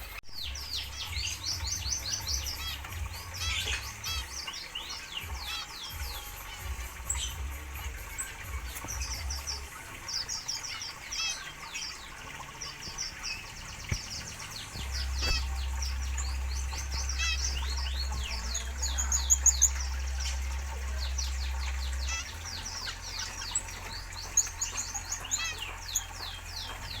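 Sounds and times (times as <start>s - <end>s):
finches chirping: 0.0s - 27.0s.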